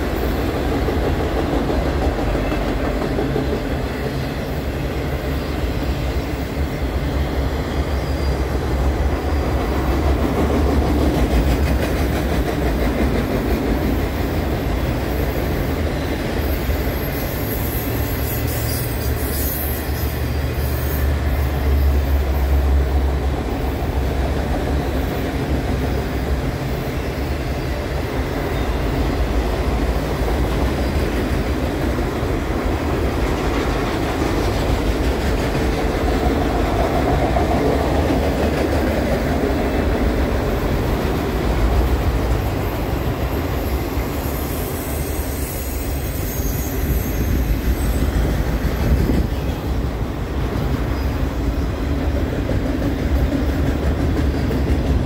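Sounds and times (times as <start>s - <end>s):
train wheels rolling on rail: 0.0s - 55.0s.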